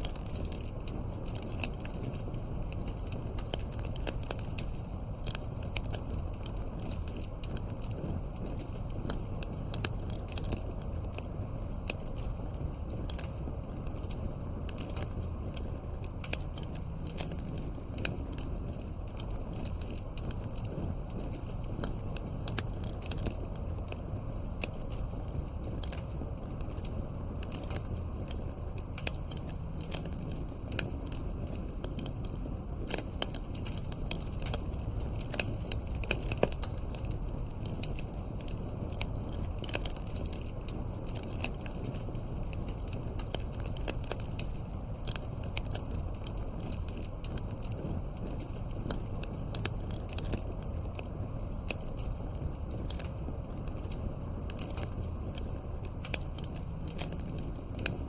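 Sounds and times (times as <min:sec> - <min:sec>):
low rush of flame: 0:00.0 - 0:58.0
wood crackling and popping: 0:00.0 - 0:58.0.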